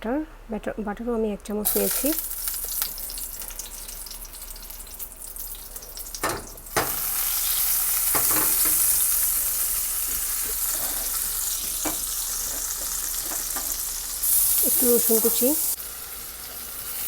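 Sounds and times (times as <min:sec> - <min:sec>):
butter sizzling in frying pan: 0:01.7 - 0:17.0.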